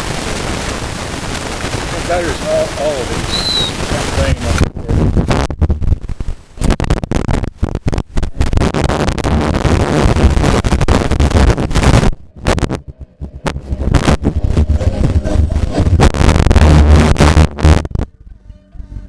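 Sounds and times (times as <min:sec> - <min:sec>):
harsh distorted crackling: 0:00.0 - 0:19.0.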